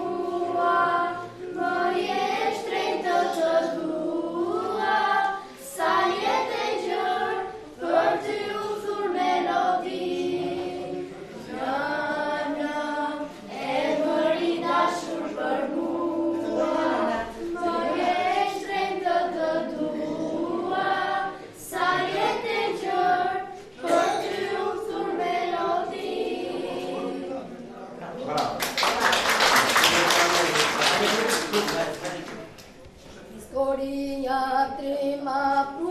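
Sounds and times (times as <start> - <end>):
girls choir singing: 0.0 - 27.8, 33.3 - 35.9.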